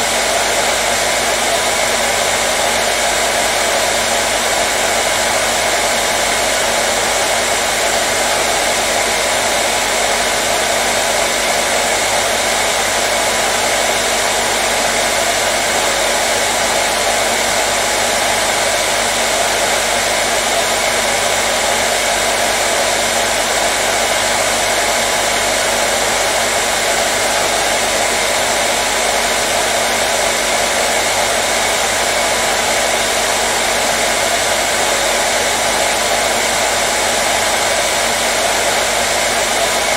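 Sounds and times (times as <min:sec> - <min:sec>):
hairdryer blowing air: 0:00.0 - 0:39.9.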